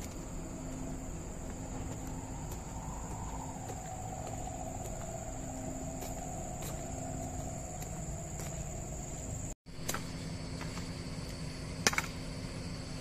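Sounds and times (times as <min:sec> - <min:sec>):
insects buzzing: 0:00.0 - 0:13.0
low rumble: 0:00.0 - 0:13.0.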